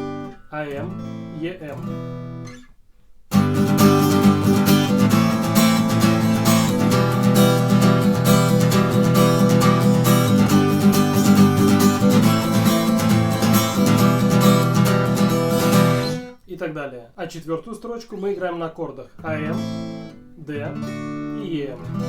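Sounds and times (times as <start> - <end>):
acoustic guitar strumming: 0.0 - 2.7, 3.3 - 16.4, 19.2 - 22.0.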